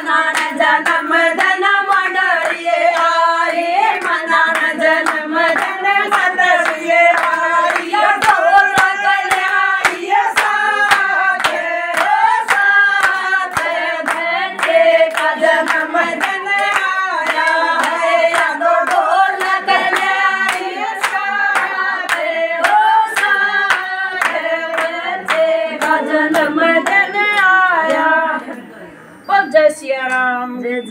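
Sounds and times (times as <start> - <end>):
hand clapping: 0.0 - 28.1
women singing in unison: 0.0 - 30.9.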